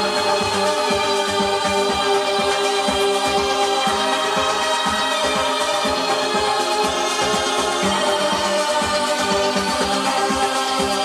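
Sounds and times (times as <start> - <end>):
music through loudspeakers: 0.0 - 11.0.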